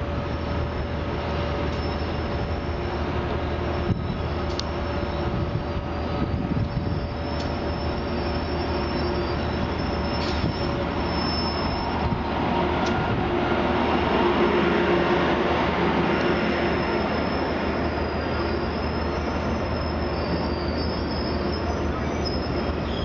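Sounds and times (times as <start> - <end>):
train rolling: 0.0 - 23.0
high wheel squeals: 1.6 - 12.7, 15.1 - 23.0.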